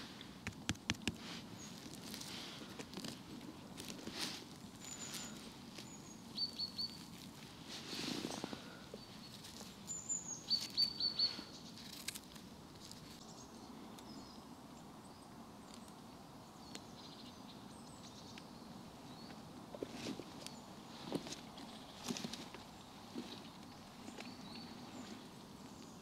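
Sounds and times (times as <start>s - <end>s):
faint steady hiss: 0.0s - 26.0s
small birds calling: 1.1s - 26.0s.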